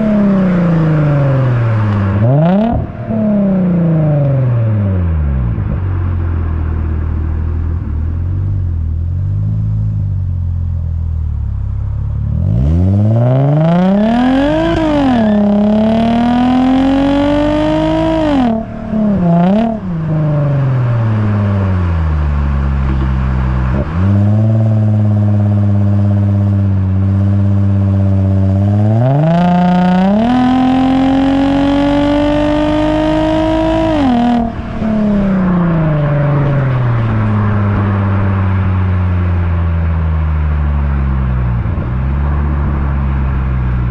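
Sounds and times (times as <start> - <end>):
car exhaust revving: 0.0 - 43.9.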